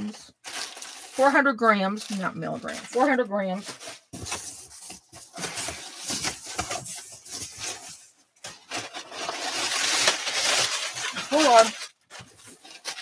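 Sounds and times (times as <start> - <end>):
rummaging in cardboard box: 0.0 - 13.0.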